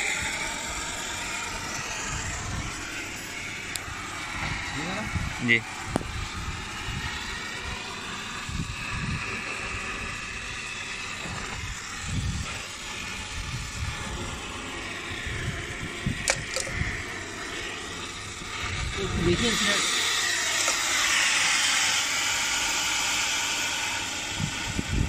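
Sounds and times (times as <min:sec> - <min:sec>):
gas torch hissing: 0:00.0 - 0:25.0.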